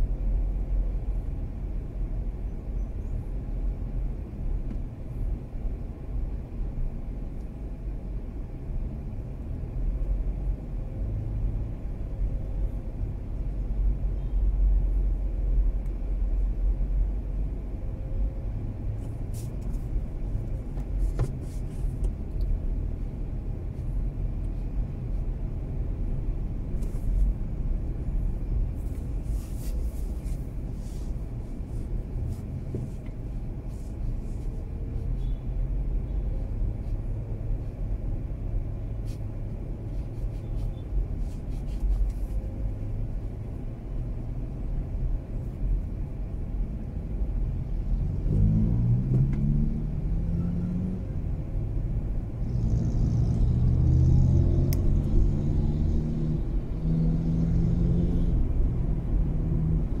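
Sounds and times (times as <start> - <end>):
car engine rumble: 0.0 - 60.0
road noise: 0.0 - 60.0.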